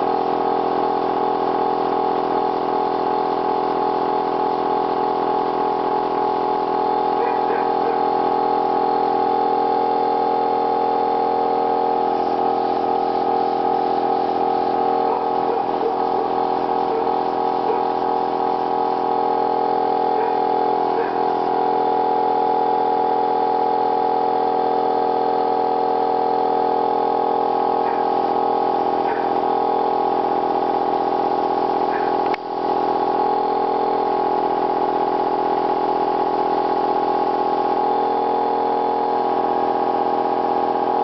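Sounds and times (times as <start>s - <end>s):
air compressor humming: 0.0s - 41.0s.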